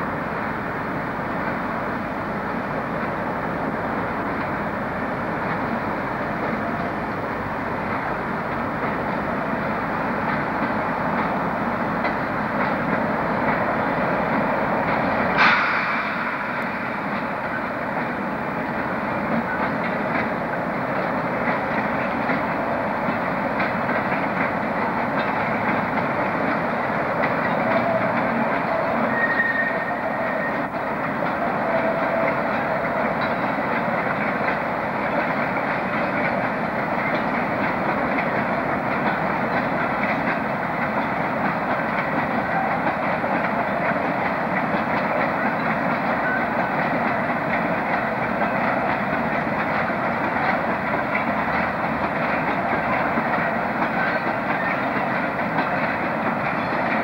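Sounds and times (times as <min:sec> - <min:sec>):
train rolling on rails: 0:00.0 - 0:57.0
wheels clickety-clack: 0:01.2 - 0:57.0.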